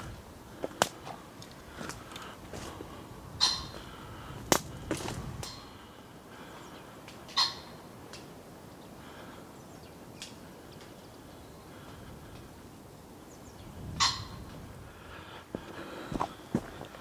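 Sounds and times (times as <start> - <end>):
wind in the woods: 0.0 - 17.0.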